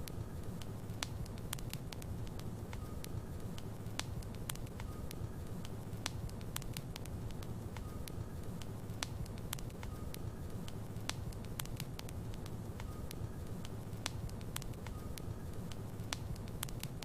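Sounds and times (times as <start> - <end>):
wood logs burning in a fireplace: 0.0 - 17.0.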